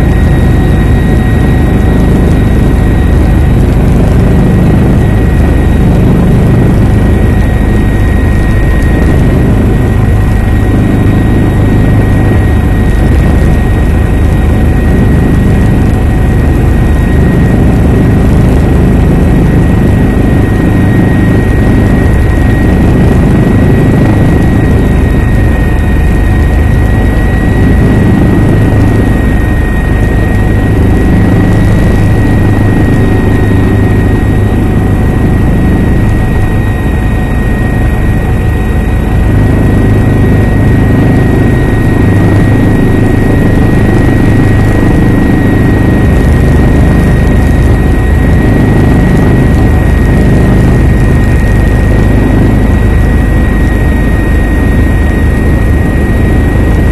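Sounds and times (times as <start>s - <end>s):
helicopter rotor and engine noise: 0.0s - 56.9s
high whine: 0.0s - 56.9s.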